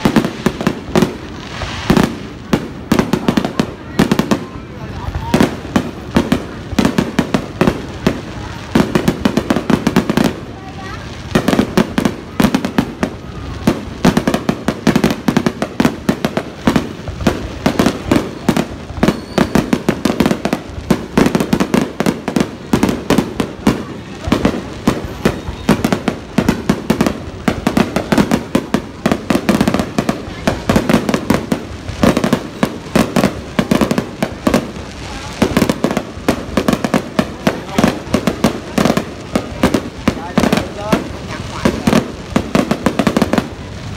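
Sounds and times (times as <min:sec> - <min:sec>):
crowd voices: 0:00.0 - 0:43.9
fireworks bangs and crackles: 0:00.0 - 0:43.9.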